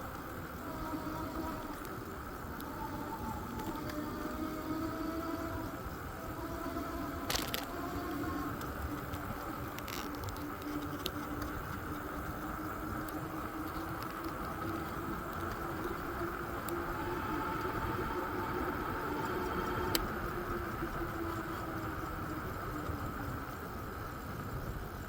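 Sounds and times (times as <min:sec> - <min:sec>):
faint clicks: 0:00.0 - 0:25.0
motor hum: 0:00.0 - 0:25.0.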